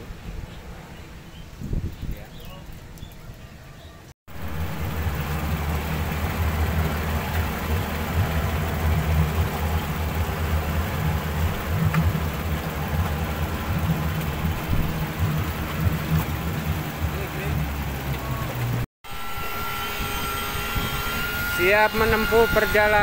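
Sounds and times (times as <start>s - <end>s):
outboard motor idling: 4.3s - 23.0s.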